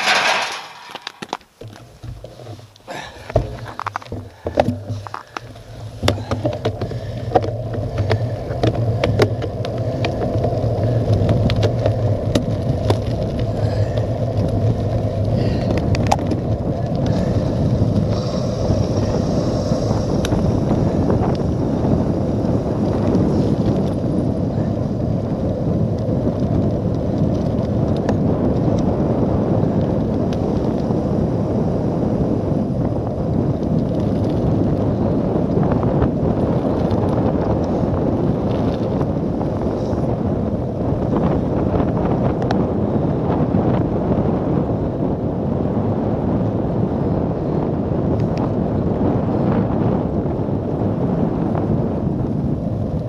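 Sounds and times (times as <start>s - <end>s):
bike tyres rolling on tarmac: 0.0s - 53.0s
wind on microphone: 0.0s - 53.0s.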